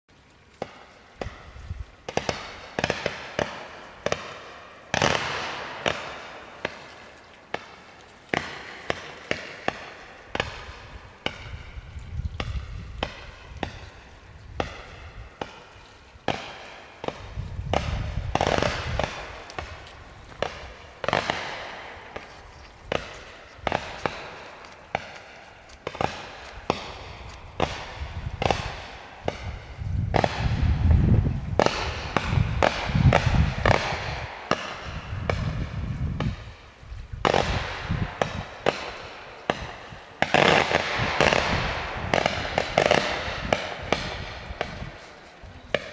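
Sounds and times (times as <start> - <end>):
firework shots banging: 0.6 - 6.9, 7.5 - 36.6, 37.2 - 45.9.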